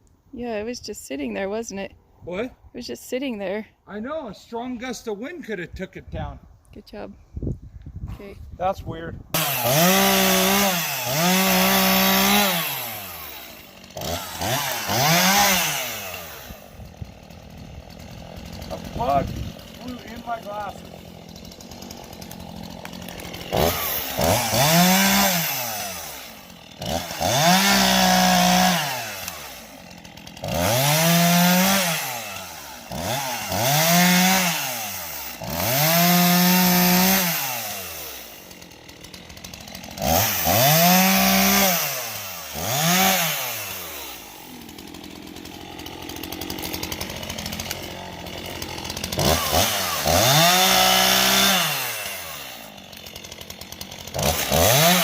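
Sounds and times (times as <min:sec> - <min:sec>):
chainsaw revving and cutting wood: 0:09.3 - 0:55.0.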